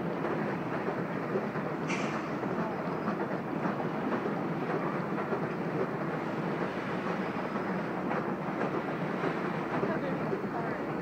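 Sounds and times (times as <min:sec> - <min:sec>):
freight train rolling on steel bridge: 0:00.0 - 0:11.0.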